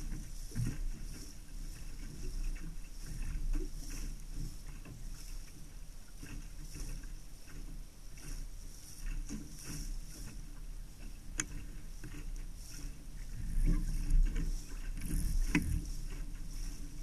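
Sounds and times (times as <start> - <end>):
low wind rumble on microphone: 0.0 - 17.0
small waves slapping hull: 0.0 - 17.0
water rushing along boat hull: 0.0 - 17.0.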